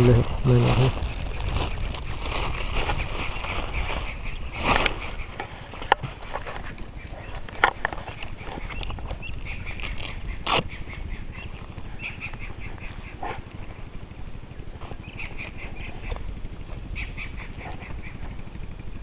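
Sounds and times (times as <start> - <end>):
animal chattering calls: 0.0 - 19.0
steady low rumble: 0.0 - 19.0.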